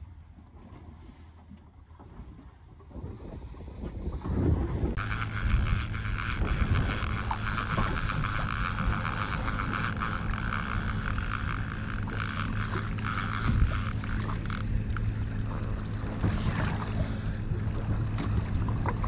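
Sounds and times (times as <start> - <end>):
outboard motor humming: 0.0 - 19.0
water rushing along hull: 0.0 - 19.0
wind on microphone: 2.8 - 19.0.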